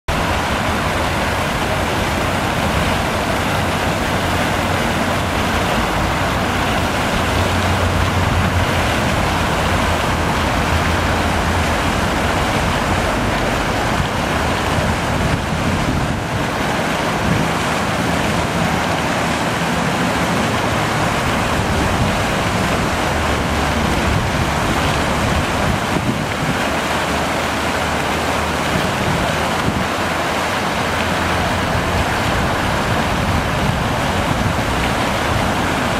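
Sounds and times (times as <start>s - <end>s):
fountain jets splashing water: 0.1s - 35.9s.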